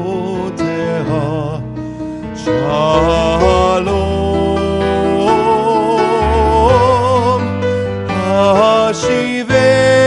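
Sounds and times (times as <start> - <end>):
person singing with vibrato: 0.0 - 10.0.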